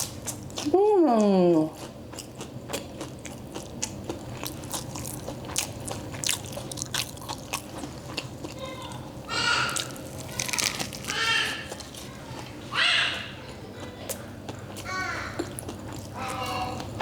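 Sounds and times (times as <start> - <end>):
crunching and chewing chip: 0.0 - 12.6, 13.4 - 17.0.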